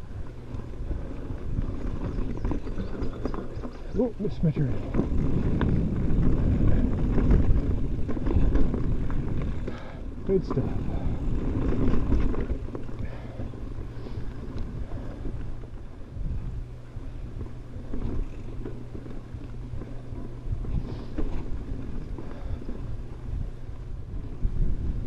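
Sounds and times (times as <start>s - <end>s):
bike rattles and knocks: 0.0s - 25.0s
bike tyre noise: 0.0s - 25.0s
wind on microphone: 0.0s - 25.0s.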